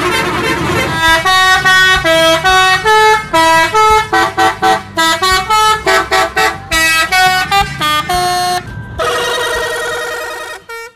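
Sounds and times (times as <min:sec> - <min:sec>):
bus engine running: 0:00.0 - 0:10.9
musical bus horn: 0:00.0 - 0:10.9.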